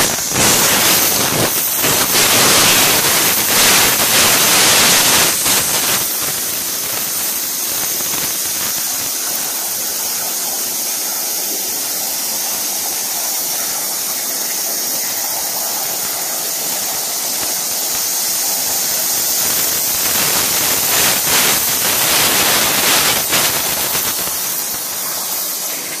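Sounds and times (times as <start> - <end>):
plasma torch hissing: 0.0 - 26.0.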